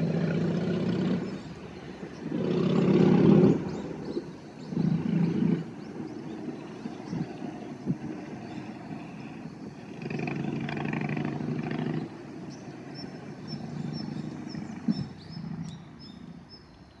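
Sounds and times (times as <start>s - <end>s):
engine drone overhead: 0.0s - 17.0s
small birds chirping: 0.0s - 17.0s.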